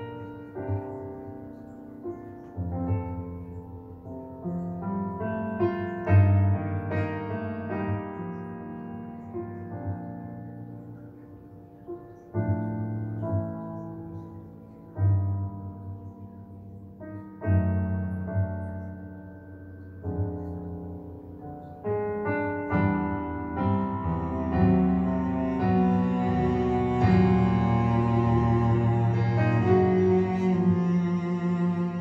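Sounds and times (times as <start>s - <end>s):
slow solo piano music: 0.0s - 32.0s.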